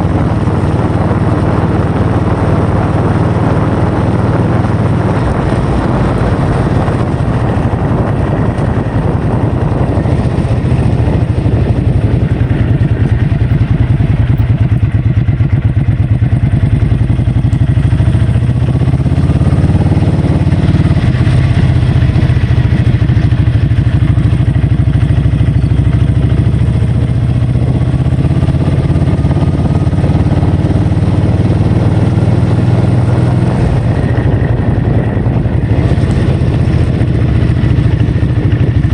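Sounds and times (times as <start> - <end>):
vehicle engine running: 0.0 - 38.9
wind noise on microphone: 0.0 - 38.9.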